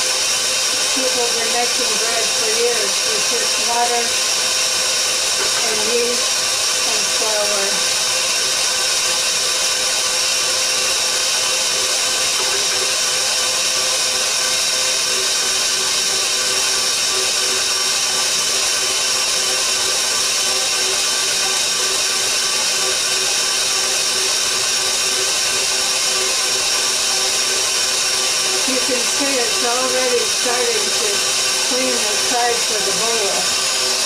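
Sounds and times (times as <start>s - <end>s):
stand mixer kneading dough: 0.0s - 34.0s.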